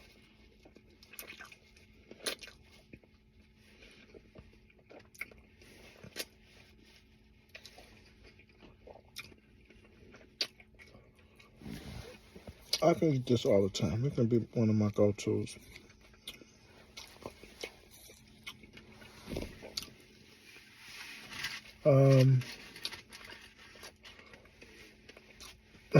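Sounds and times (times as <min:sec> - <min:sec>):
man chewing food: 0:00.0 - 0:13.5, 0:15.4 - 0:21.8, 0:22.6 - 0:25.9.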